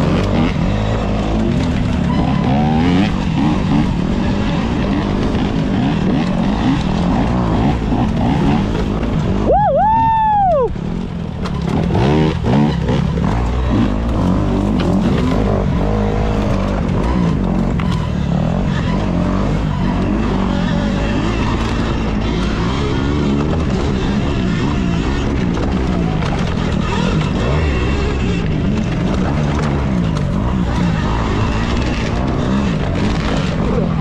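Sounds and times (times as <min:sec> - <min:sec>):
low rumble of riding: 0:00.0 - 0:34.0.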